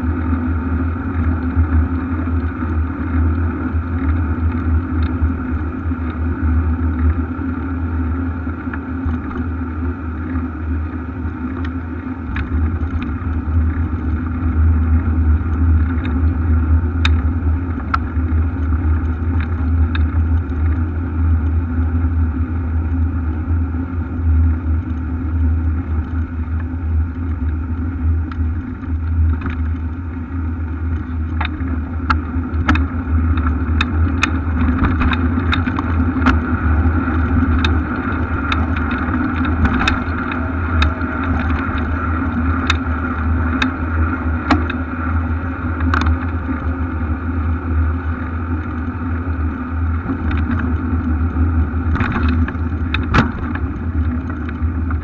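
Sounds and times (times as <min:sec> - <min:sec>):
bicycle clicks and rattles: 0:00.0 - 0:55.0
wind and road rumble: 0:00.0 - 0:55.0.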